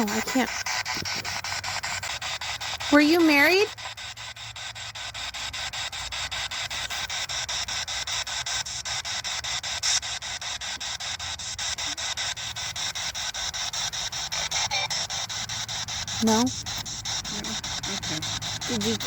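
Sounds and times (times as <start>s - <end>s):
chopping radio static: 0.0s - 19.0s.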